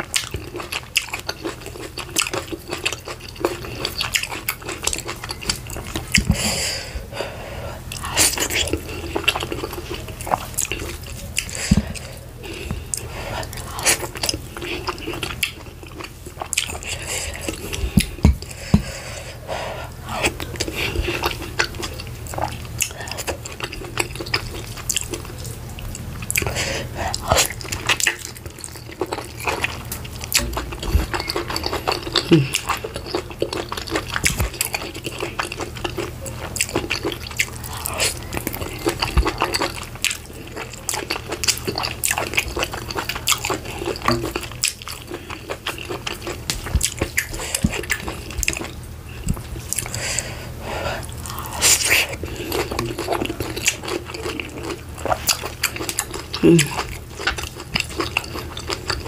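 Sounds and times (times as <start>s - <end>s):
chewing and mouth smacking: 0.0s - 6.6s, 7.9s - 18.9s, 19.9s - 50.3s, 50.9s - 59.0s.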